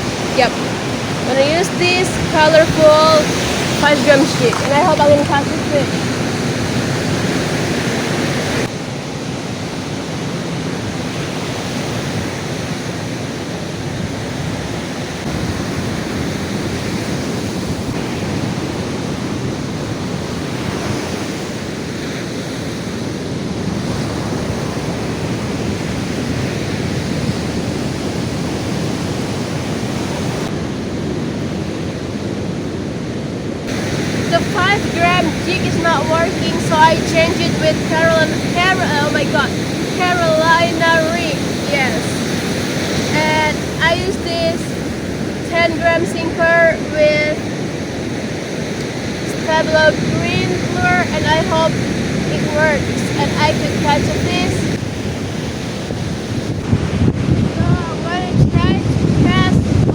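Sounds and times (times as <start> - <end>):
ocean surf washing onto beach: 0.0 - 59.9
wind on microphone: 0.0 - 59.9.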